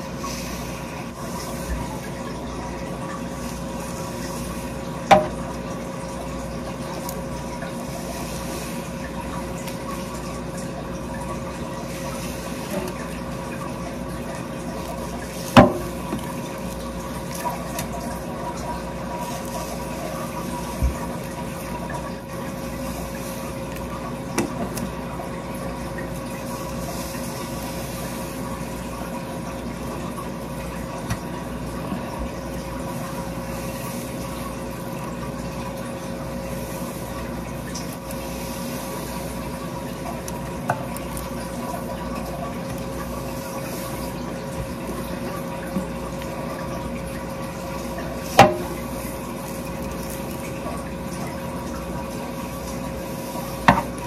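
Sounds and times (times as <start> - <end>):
constant hum: 0.0 - 54.0
tap water running into sink: 0.0 - 54.0.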